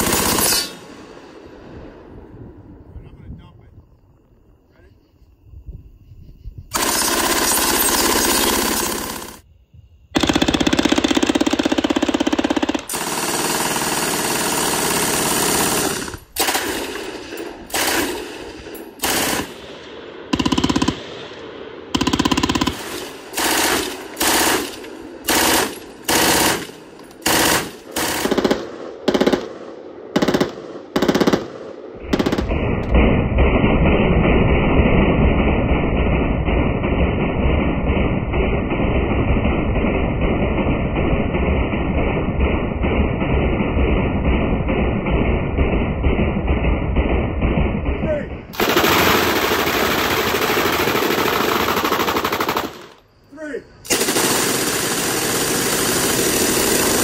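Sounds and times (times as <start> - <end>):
machine guns firing: 0.0 - 1.0, 6.7 - 9.4, 10.2 - 53.1, 53.8 - 57.0.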